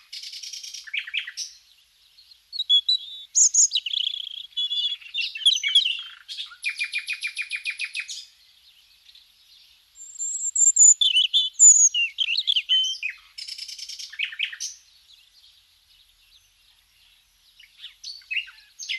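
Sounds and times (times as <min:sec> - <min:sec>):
songbird chirping and trilling: 0:00.0 - 0:18.9.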